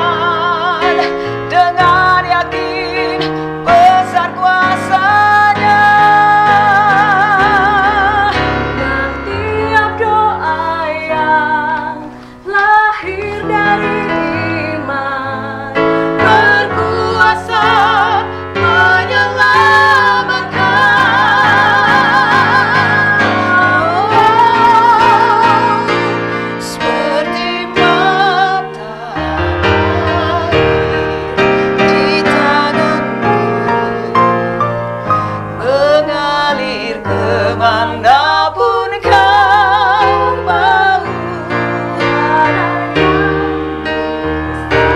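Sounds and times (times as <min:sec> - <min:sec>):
women singing a hymn: 0:00.0 - 0:34.6, 0:35.2 - 0:44.9
electronic keyboard chords: 0:00.0 - 0:44.9.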